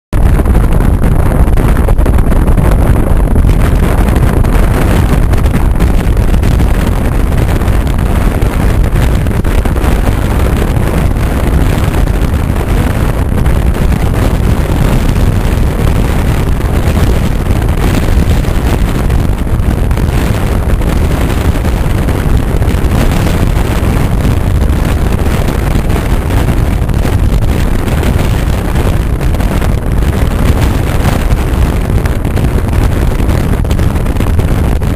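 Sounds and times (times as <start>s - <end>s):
wind buffeting microphone: 0.1s - 34.9s
car road and engine noise: 0.2s - 34.9s.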